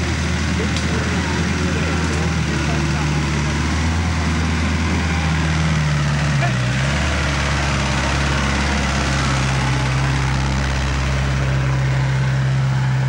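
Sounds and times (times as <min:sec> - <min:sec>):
vehicle engine driving past: 0:00.0 - 0:13.0.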